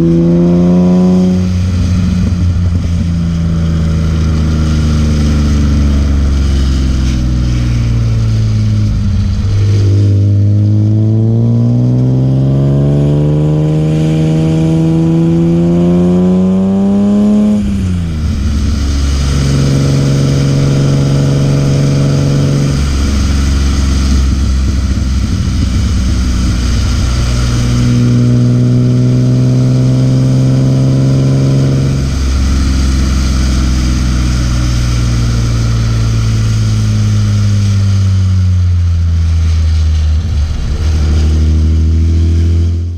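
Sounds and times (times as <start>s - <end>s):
car engine revving under load: 0.0s - 42.9s.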